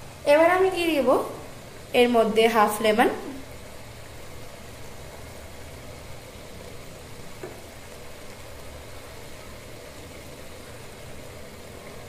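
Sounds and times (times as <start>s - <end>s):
low rumble with hiss: 0.0s - 12.0s.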